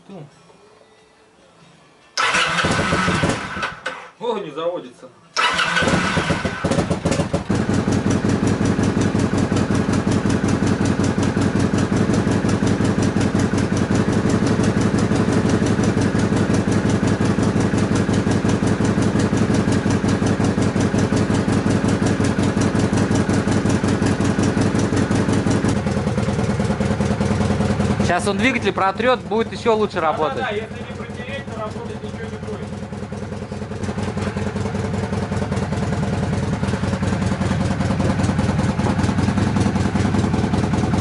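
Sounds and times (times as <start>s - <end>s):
motorcycle engine idling: 2.2s - 3.9s, 5.4s - 41.0s.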